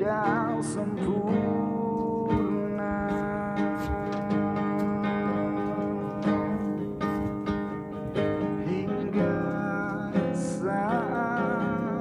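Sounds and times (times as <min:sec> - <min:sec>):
person singing: 0:00.0 - 0:07.2, 0:08.4 - 0:12.0
strummed acoustic guitar: 0:00.0 - 0:12.0.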